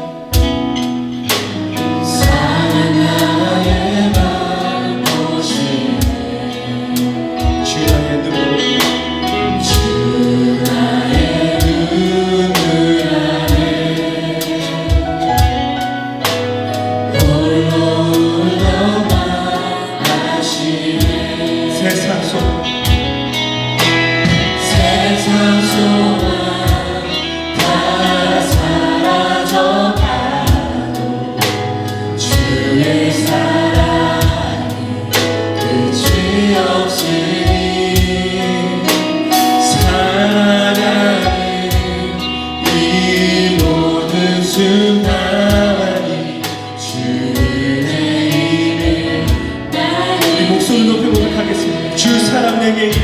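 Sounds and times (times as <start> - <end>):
steady drum beat: 0.0 - 53.0
worship band playing: 0.0 - 53.0
group of voices singing: 1.2 - 53.0.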